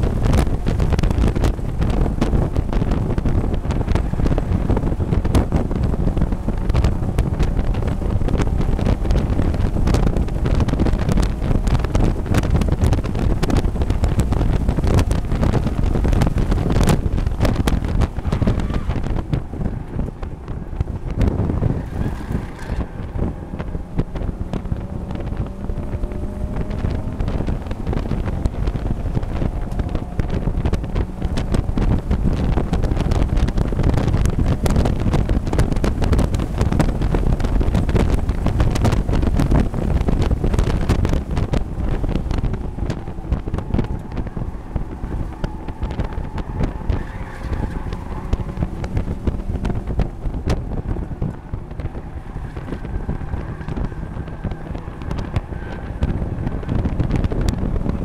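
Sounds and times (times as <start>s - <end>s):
race car engine revving: 0.0s - 58.0s
wind buffeting on microphone: 0.0s - 58.0s.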